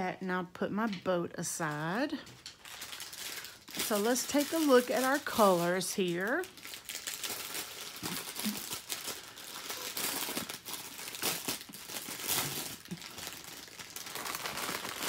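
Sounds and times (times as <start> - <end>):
plastic packaging crinkling: 1.6 - 15.0.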